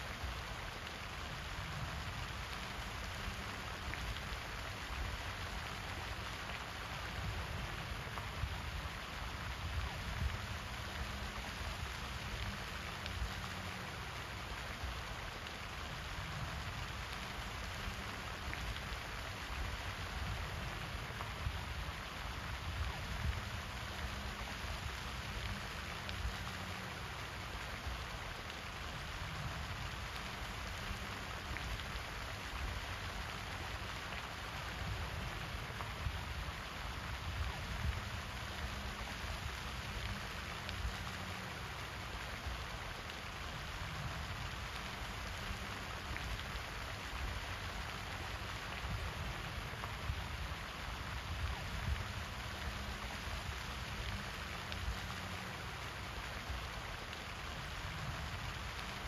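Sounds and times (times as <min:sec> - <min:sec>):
fountain water splashing: 0:00.0 - 0:59.0
low unsteady rumble: 0:00.0 - 0:59.0.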